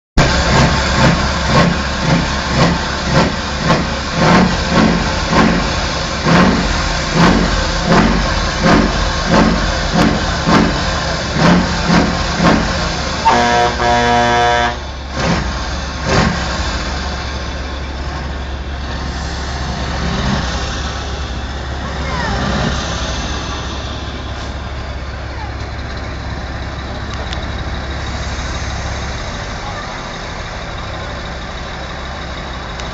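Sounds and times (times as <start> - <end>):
truck diesel engine revving: 0.2 - 32.9.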